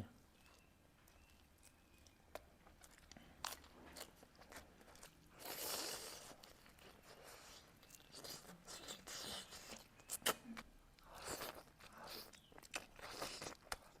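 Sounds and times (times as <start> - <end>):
chewing and wet mouth sounds: 0.2 - 14.0.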